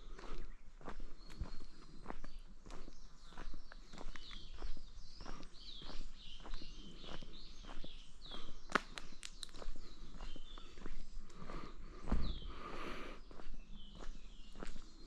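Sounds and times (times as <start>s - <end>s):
birds calling: 0.0s - 15.0s
footsteps on forest path: 0.0s - 15.0s.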